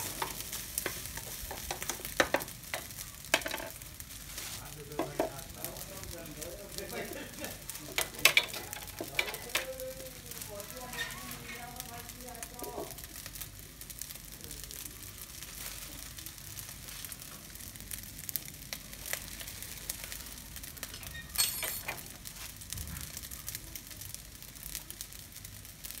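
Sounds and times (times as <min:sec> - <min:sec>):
plastic bag crinkling: 0:00.0 - 0:13.6, 0:14.9 - 0:23.4
rice sizzling in a pan: 0:00.0 - 0:26.0.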